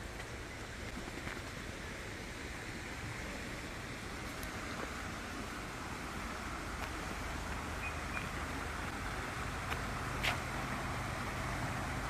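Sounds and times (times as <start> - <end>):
steady outdoor hiss: 0.0 - 12.0
vehicle engine rumble: 0.0 - 12.0.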